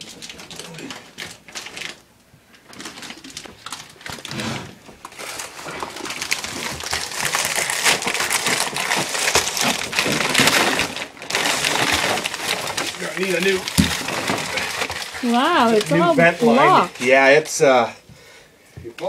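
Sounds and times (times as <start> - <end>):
vent duct crinkling and scraping: 0.0 - 17.9.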